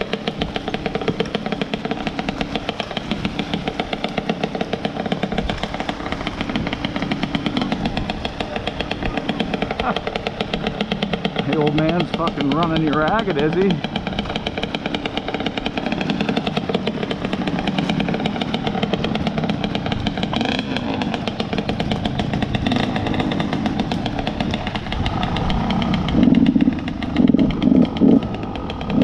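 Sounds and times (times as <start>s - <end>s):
dirt bike engine running: 0.0s - 29.0s
engine throttle blips: 0.0s - 29.0s.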